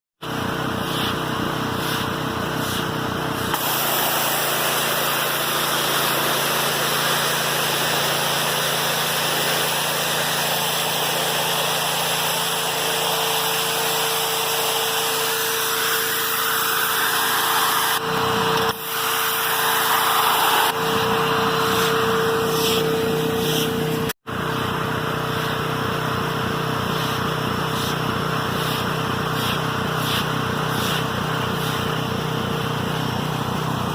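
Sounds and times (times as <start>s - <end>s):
electric pressure washer whining: 0.2s - 33.9s.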